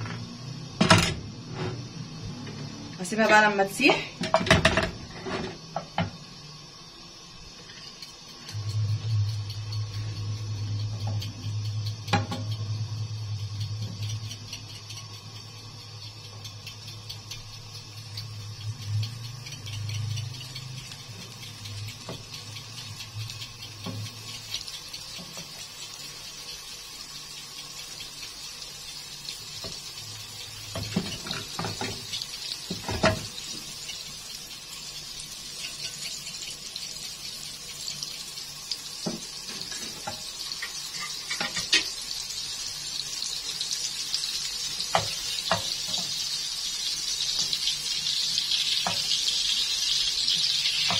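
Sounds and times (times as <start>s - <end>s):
butter sizzling in a frying pan: 0.0s - 50.9s.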